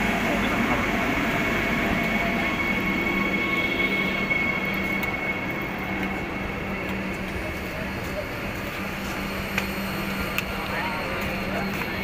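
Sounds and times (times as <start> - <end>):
electric train rumbling with whine: 0.0 - 12.0.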